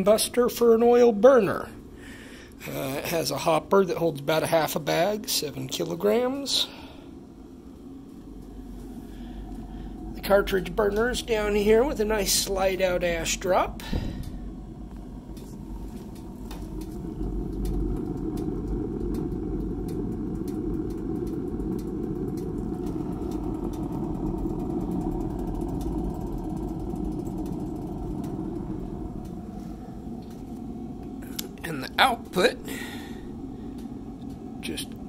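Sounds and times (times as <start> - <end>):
faint ticks and crackles: 0.0 - 35.0
pellet burner fan rumble: 0.0 - 35.0.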